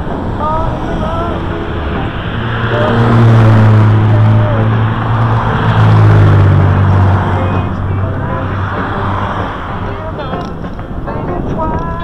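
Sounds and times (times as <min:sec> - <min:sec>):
car traffic passing: 0:00.0 - 0:12.0
low engine hum: 0:00.0 - 0:12.0.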